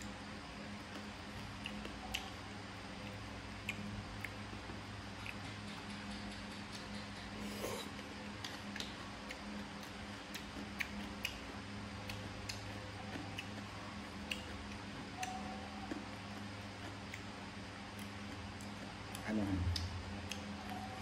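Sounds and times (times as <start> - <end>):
chewing and mouth sounds: 0.0 - 21.0
steady low hum: 0.0 - 21.0.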